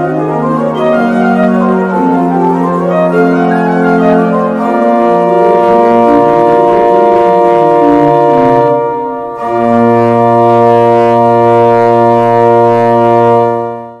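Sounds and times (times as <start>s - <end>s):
instrumental music sustained chords: 0.0s - 14.0s.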